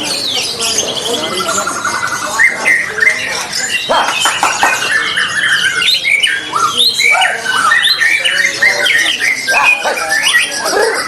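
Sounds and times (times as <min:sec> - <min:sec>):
songbirds whistling: 0:00.0 - 0:11.0.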